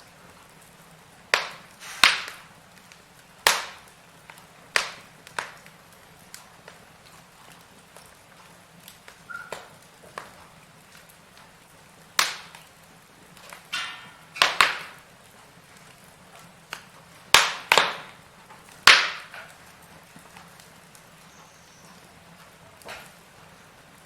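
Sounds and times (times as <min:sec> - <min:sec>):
firewood crackling and popping: 0:00.0 - 0:24.0.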